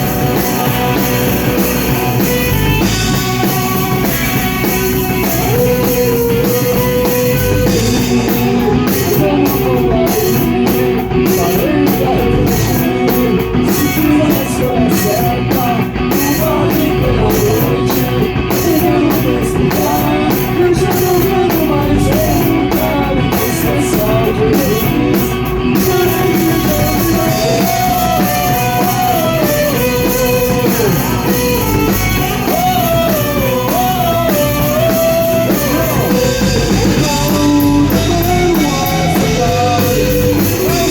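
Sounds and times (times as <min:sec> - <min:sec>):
rock band playing live: 0:00.0 - 0:40.9.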